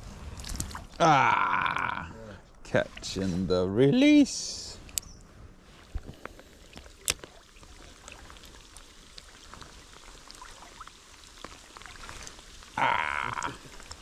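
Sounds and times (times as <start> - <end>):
rain drops on creek water: 0.0 - 3.2, 5.7 - 14.0
flowing water: 0.0 - 4.1, 5.6 - 14.0.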